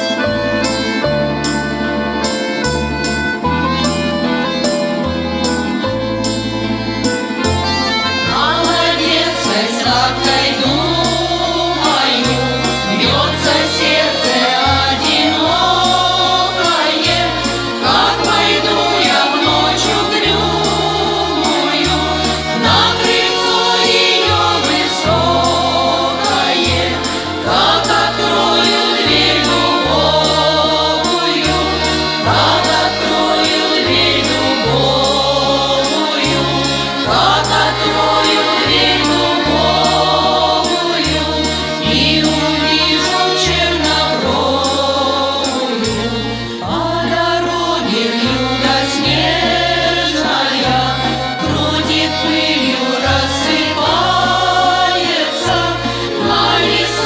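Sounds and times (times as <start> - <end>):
instrumental accompaniment: 0.0 - 57.0
voices singing slow melody: 7.3 - 57.0.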